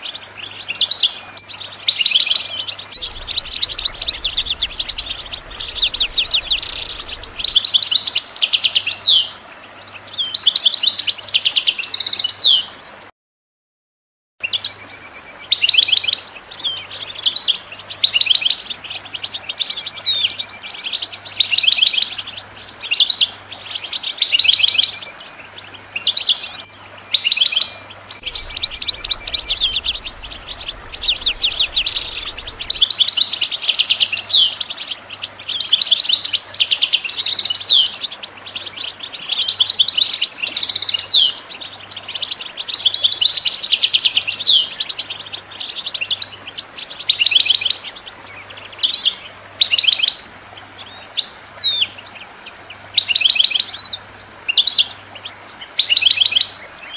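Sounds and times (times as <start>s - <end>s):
finch twittering and trilling: 0.0s - 12.6s, 14.4s - 56.9s.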